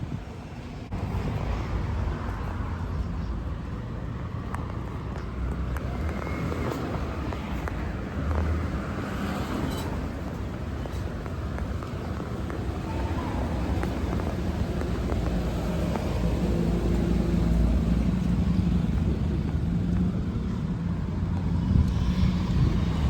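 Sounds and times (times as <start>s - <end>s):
street noise: 0.0s - 23.0s
vehicle engine humming: 0.2s - 23.0s.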